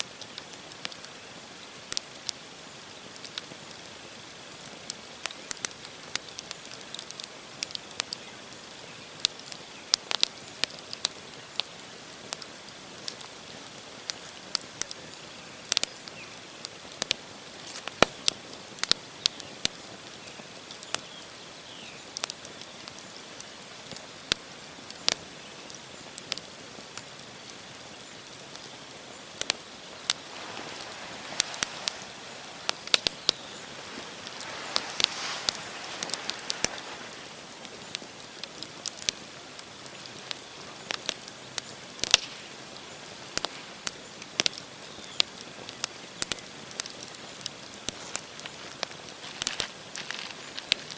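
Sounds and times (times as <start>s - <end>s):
campfire crackling and popping: 0.0s - 50.9s
hiss of flames: 0.1s - 50.9s.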